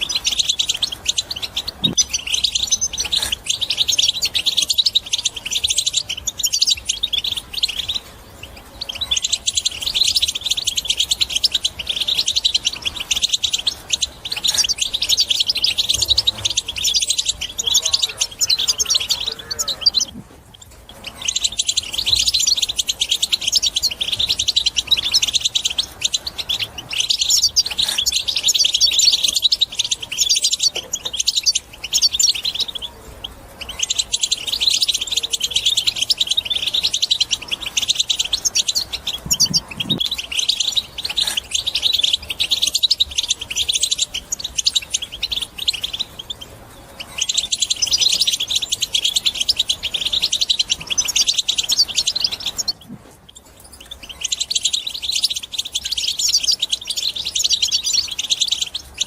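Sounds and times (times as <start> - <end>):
goldfinch twittering song: 0.0 - 59.0.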